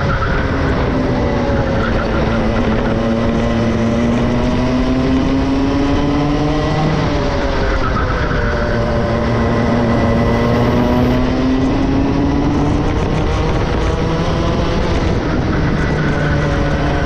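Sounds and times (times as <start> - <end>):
two-stroke kart engine revving: 0.0 - 17.0.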